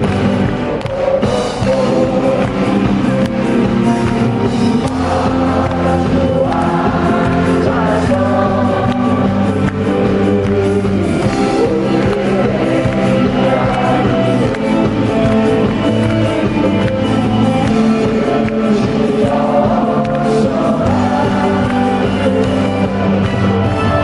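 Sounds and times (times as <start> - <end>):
live band playing: 0.0 - 24.0
person singing: 0.0 - 24.0.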